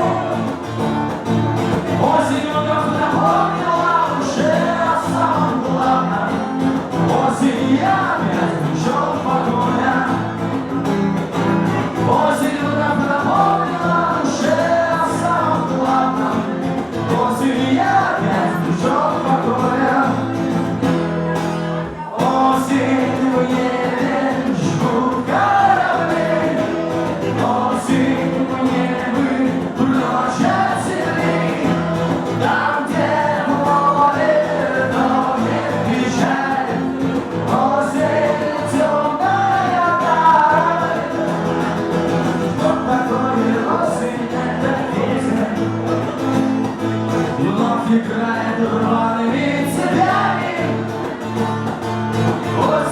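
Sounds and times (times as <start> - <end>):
live band playing with singing: 0.0 - 52.9.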